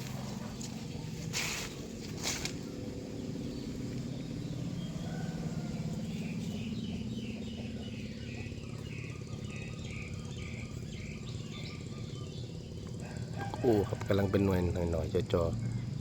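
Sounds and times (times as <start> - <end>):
motor humming: 0.0 - 14.6
bird chirping: 0.0 - 16.0.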